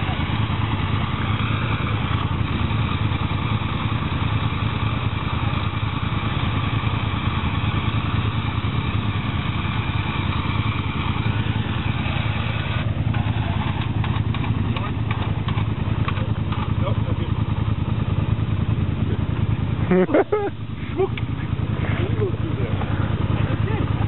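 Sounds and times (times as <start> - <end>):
atv engine running steadily: 0.0 - 24.0.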